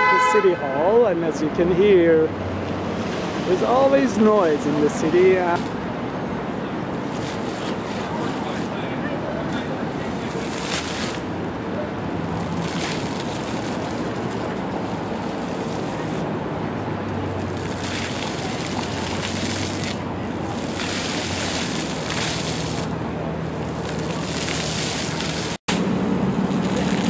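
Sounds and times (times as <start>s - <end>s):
low hum of city traffic: 0.0s - 27.0s
fountain jets splashing: 3.0s - 27.0s.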